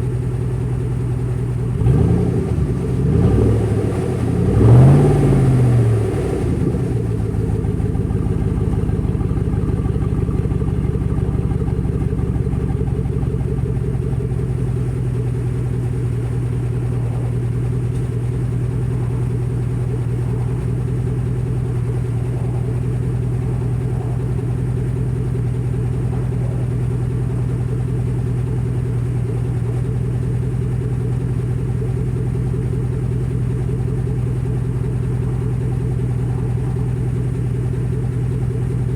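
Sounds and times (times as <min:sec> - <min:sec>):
engine idling through open exhaust: 0:00.0 - 0:38.9.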